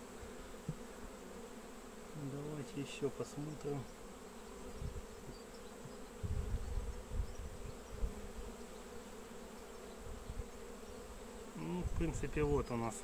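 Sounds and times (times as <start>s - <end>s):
honey bees buzzing: 0.0s - 13.0s
low bumps of hive frame: 0.0s - 13.0s.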